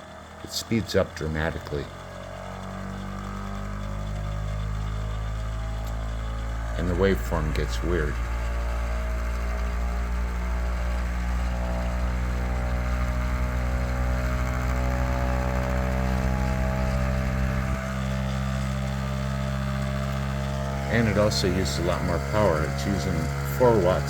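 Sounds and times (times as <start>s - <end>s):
small motor whining hum: 0.0s - 24.0s.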